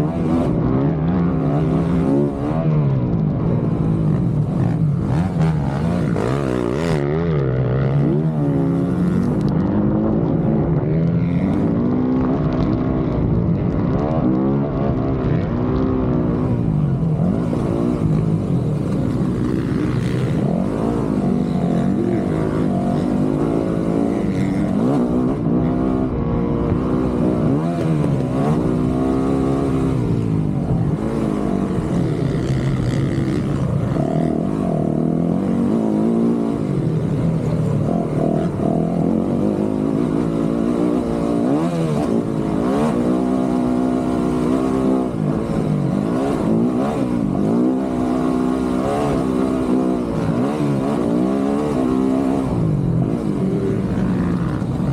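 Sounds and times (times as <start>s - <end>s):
dirt bike engine revving: 0.0s - 13.0s, 14.3s - 54.9s.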